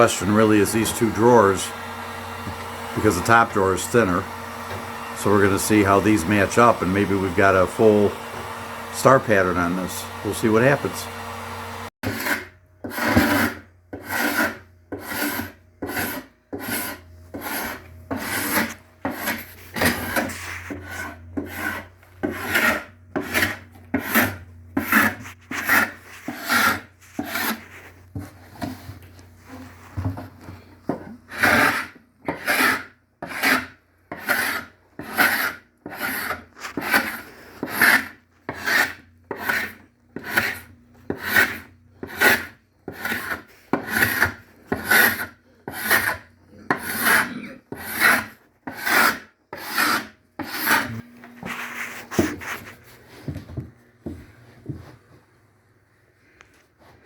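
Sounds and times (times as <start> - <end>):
hand scraping wood: 0.0 - 11.1, 12.0 - 55.0.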